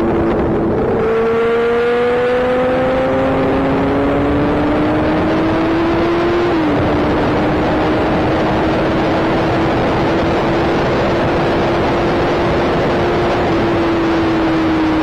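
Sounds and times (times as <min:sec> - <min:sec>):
motorcycle engine: 0:00.0 - 0:15.0
wind noise on microphone: 0:00.0 - 0:15.0.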